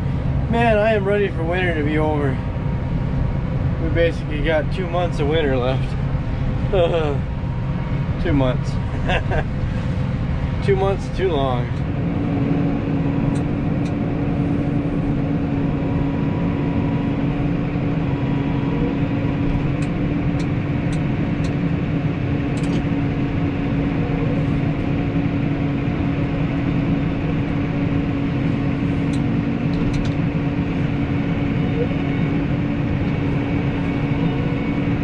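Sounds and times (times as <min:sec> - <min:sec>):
tractor engine droning: 0:00.0 - 0:35.0.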